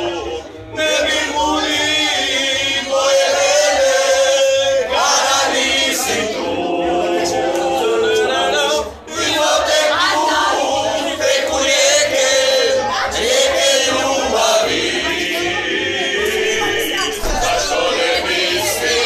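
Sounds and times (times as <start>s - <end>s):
men and women singing in chorus: 0.0s - 19.0s.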